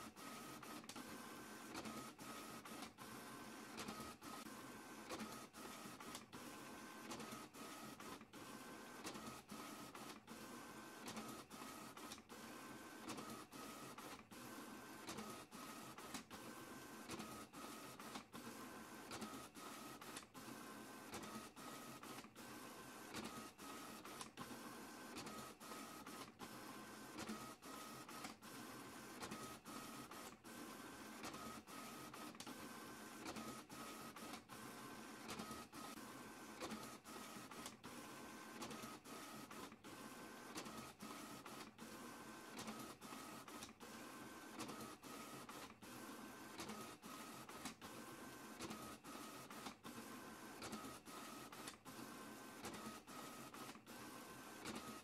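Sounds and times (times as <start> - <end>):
printer mechanical whirr: 0.0 - 55.0.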